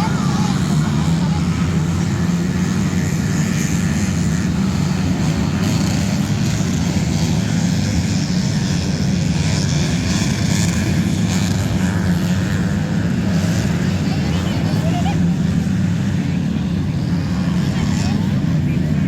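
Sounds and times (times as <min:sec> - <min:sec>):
loud engine drone: 0:00.0 - 0:19.0.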